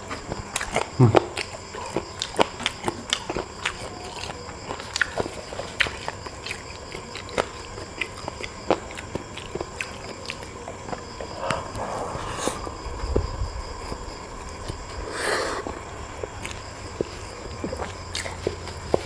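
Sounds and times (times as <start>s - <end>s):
wet chewing clicks and smacks: 0.0s - 15.0s, 15.6s - 19.0s
rustling and slurping: 1.6s - 19.0s.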